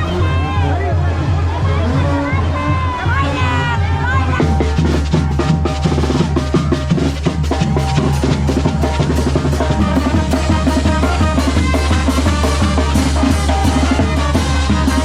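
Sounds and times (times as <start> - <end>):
brass band playing: 0.0 - 15.0
snare and bass drum beats: 2.8 - 15.0.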